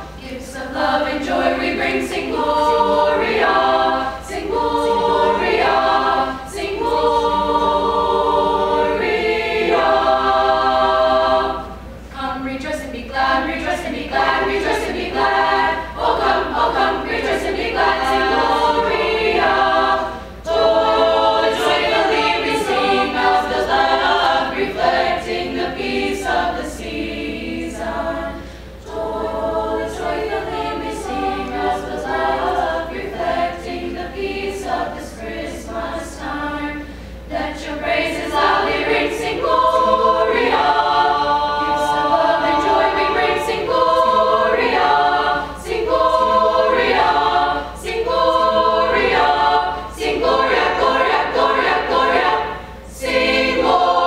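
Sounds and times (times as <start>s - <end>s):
choir singing in parts: 0.0s - 54.0s.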